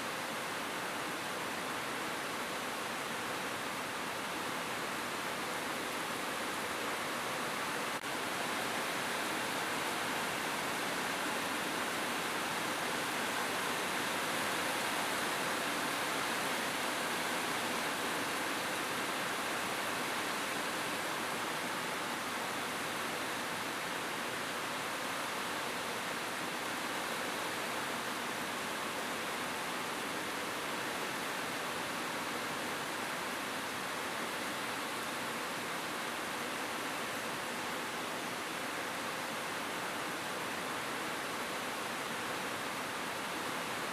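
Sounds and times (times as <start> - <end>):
rain on a roof: 0.0 - 43.9.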